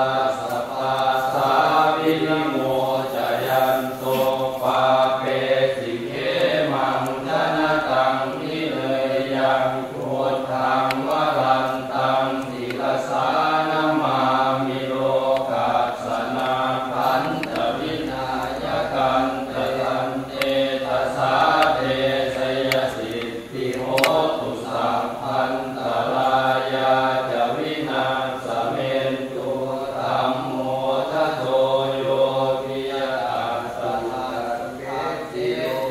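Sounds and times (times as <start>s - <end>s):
group chanting in unison: 0.0s - 35.9s.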